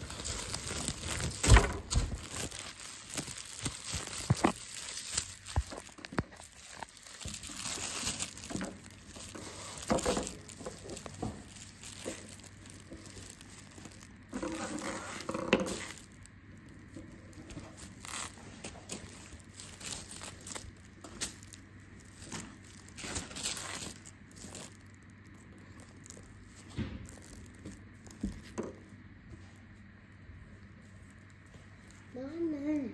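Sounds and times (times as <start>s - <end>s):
plastic packaging rustling: 0.0s - 29.6s.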